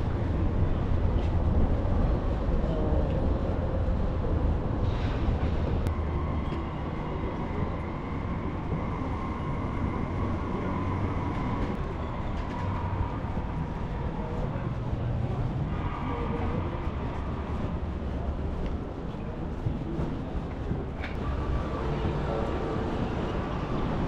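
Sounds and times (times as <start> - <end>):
vehicle rumbling while moving: 0.0 - 24.0.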